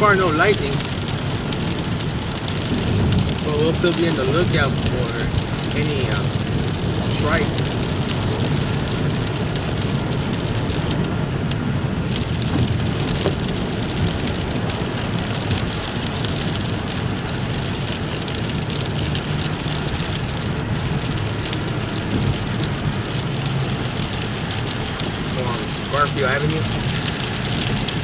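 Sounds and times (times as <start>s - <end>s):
rain ticking on car: 0.0s - 28.0s
road noise rumble: 0.0s - 28.0s.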